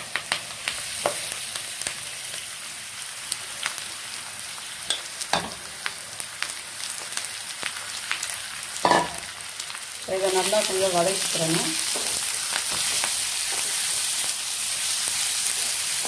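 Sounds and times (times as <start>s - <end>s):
liver sizzling in hot oil: 0.0s - 16.0s.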